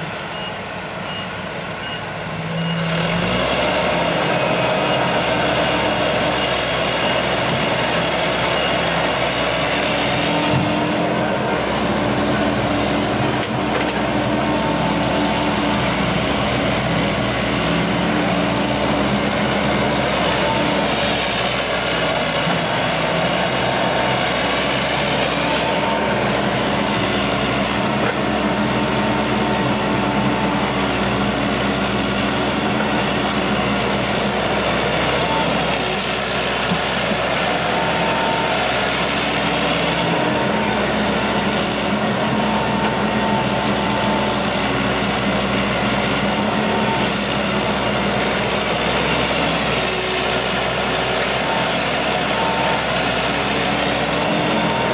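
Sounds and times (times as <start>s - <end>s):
diesel engines running: 0.0s - 54.9s
excavator digging soil: 2.6s - 54.9s.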